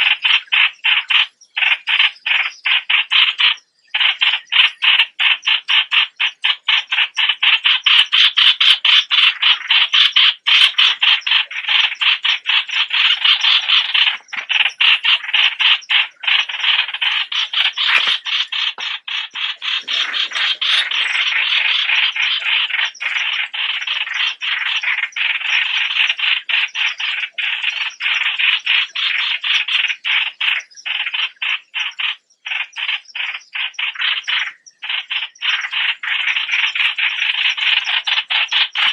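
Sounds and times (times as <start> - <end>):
bird chattering calls: 0.0 - 38.9.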